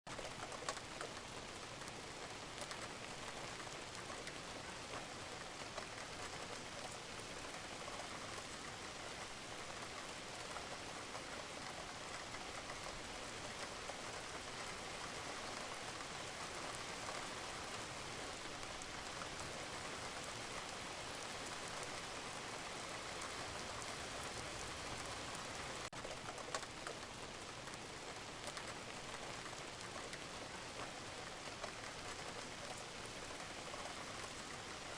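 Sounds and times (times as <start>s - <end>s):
rain falling on a roof: 0.1s - 34.9s.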